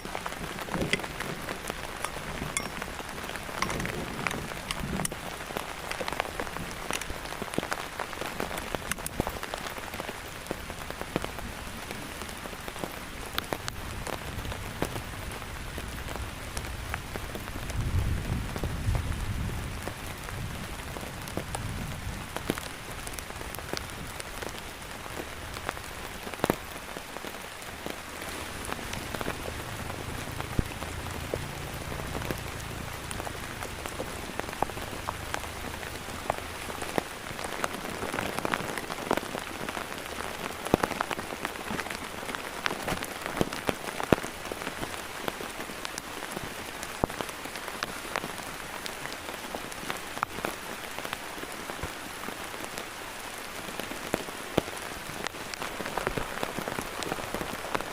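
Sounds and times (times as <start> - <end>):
heavy rain on a surface: 0.0 - 57.9.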